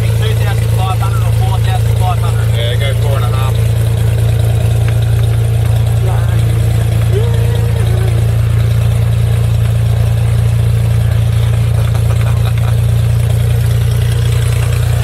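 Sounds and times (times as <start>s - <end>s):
aircraft engine droning: 0.0s - 15.0s.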